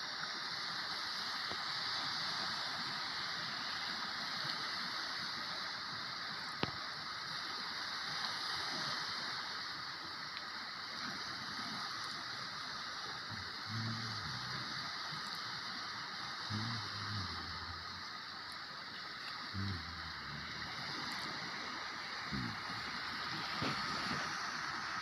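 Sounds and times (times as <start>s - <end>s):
sea water rushing: 0.0s - 25.0s.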